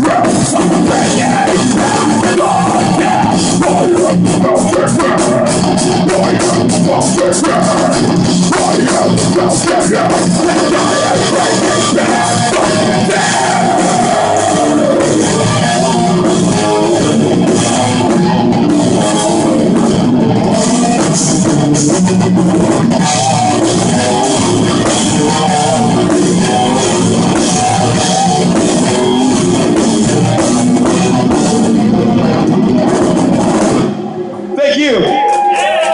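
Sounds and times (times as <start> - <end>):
heavy metal band playing: 0.0 - 35.9.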